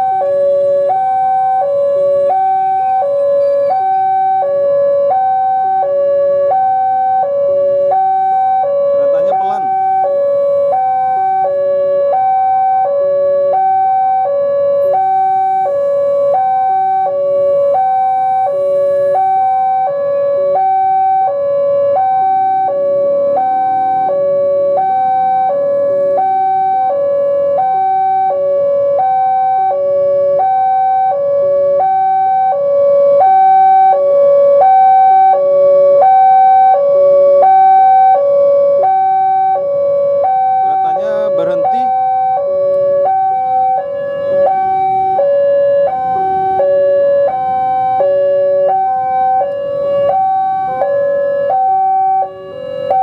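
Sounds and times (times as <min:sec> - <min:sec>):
level crossing two-tone alarm: 0:00.0 - 0:53.0.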